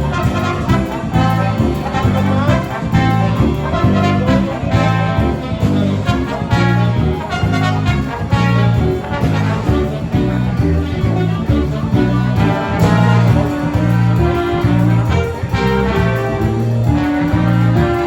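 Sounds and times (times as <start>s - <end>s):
jazz music with brass and bass: 0.0s - 18.0s.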